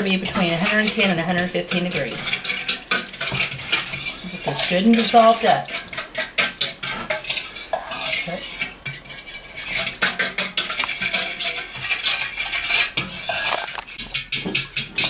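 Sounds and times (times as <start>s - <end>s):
metal spoon stirring in steel bowl: 0.0s - 15.0s.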